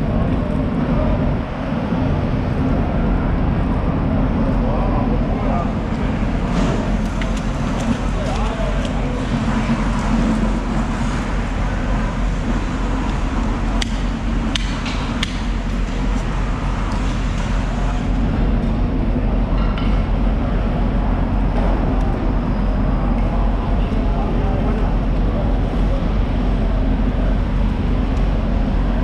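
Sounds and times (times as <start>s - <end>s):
low machinery drone: 0.0s - 29.0s.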